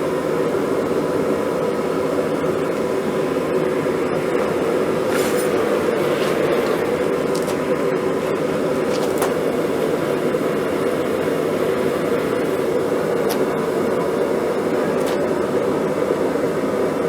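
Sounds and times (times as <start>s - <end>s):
forge roaring: 2.6s - 17.0s.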